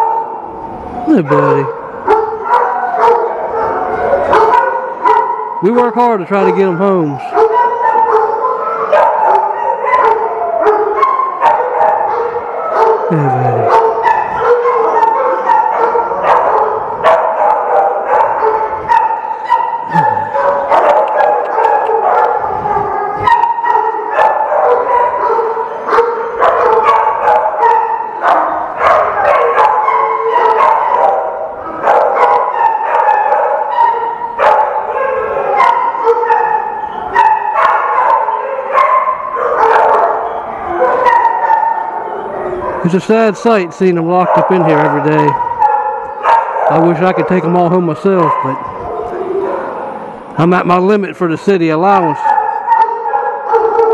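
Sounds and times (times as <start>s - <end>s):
many dogs barking: 0.0s - 53.9s.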